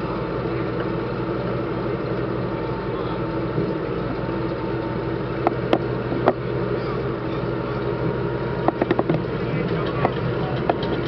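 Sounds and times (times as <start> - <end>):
radial engine running: 0.0 - 11.0.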